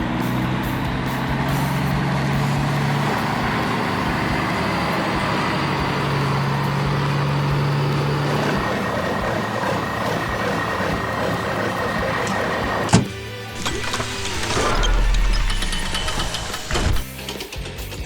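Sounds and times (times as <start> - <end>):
heavy vehicle engine running: 0.0 - 17.2.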